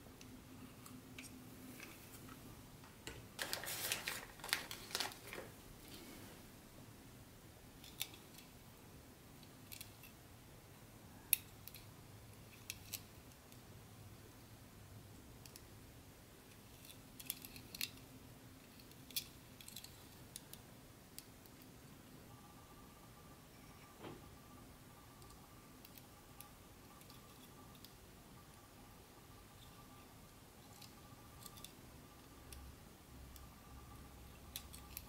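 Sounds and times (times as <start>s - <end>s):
faint low hum: 0.0s - 35.0s.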